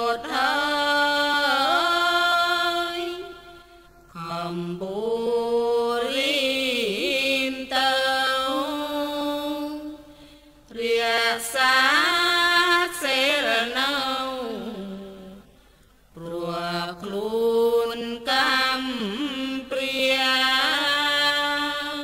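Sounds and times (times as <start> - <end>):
person chanting melodically: 0.0 - 15.5, 16.1 - 22.0.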